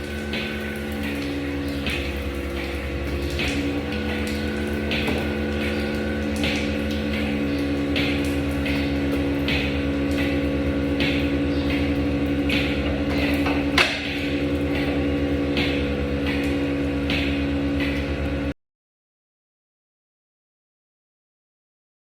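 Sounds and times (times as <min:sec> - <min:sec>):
rhythmic pulsator hiss: 0:00.0 - 0:18.0
milking machine vacuum hum: 0:00.0 - 0:18.6.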